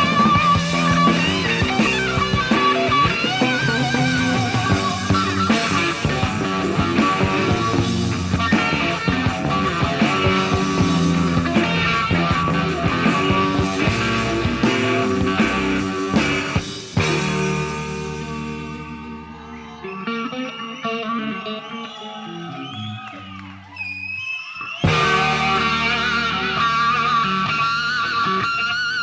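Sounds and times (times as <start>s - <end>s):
hard rock band playing ballad: 0.0s - 21.5s, 24.8s - 29.0s
lead electric guitar long notes: 0.0s - 21.8s, 24.9s - 29.0s.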